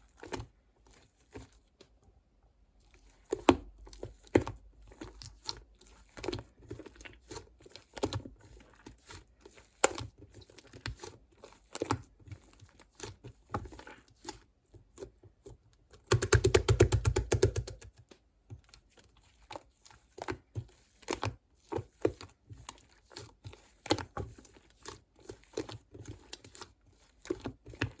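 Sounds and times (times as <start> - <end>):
close-up crinkling and crackling: 0.0 - 2.1, 2.7 - 16.6, 17.7 - 28.0.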